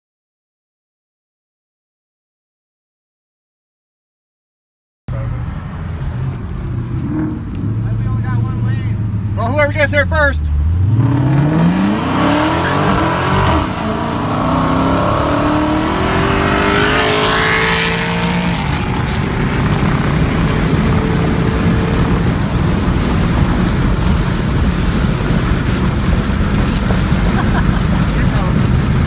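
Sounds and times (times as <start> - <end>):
car engine accelerating: 5.1 - 29.0
wind and road noise: 5.1 - 29.0.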